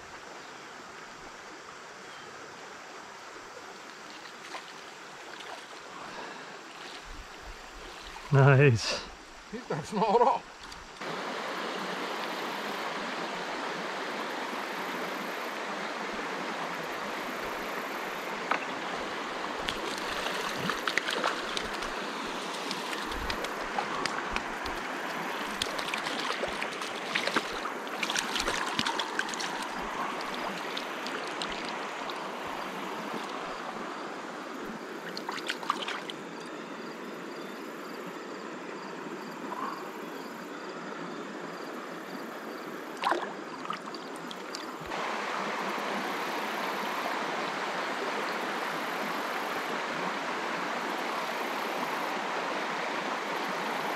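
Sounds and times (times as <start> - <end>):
creek water rushing over rocks: 2.4 - 37.4, 40.8 - 53.9.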